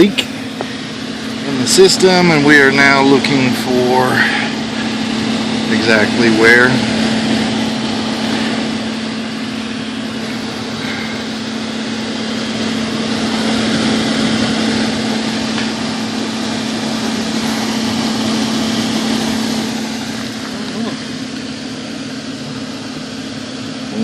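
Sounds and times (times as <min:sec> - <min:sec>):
air-conditioning equipment humming: 0:00.0 - 0:24.0.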